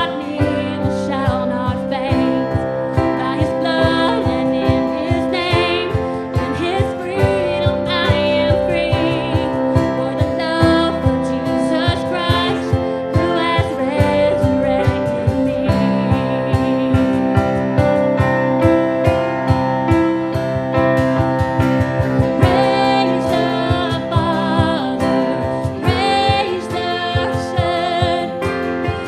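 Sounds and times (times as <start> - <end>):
worship band music: 0.0 - 29.0.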